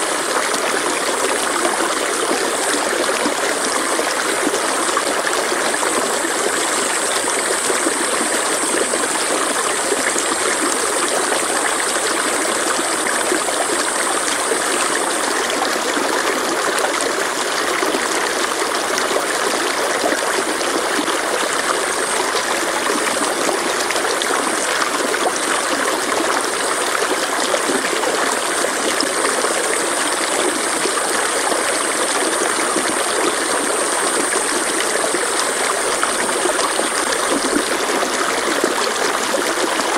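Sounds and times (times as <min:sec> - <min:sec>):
stream rushing and trickling: 0:00.0 - 0:39.9.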